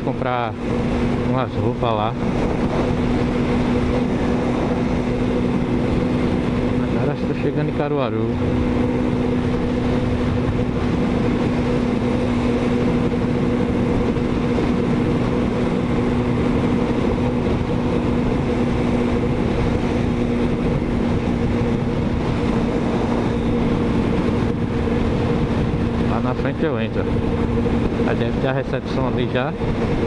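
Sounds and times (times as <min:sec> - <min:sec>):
motorcycle engine cruising: 0:00.0 - 0:30.0
wind and road noise: 0:00.0 - 0:30.0.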